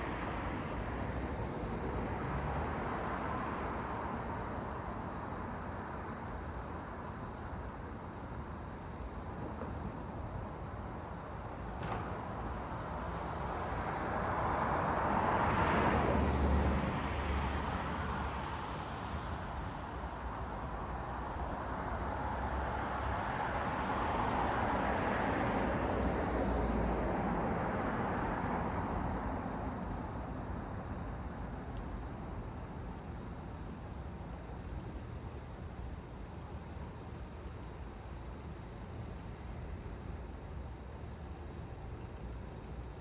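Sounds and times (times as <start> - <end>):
steady traffic hum: 0.0 - 43.0.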